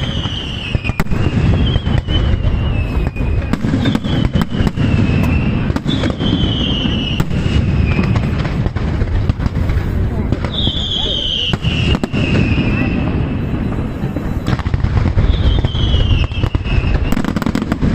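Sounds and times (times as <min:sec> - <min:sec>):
firework cracks: 0:00.0 - 0:17.9
firework whistles: 0:00.0 - 0:17.9
low rumble of firework bursts: 0:00.0 - 0:17.9.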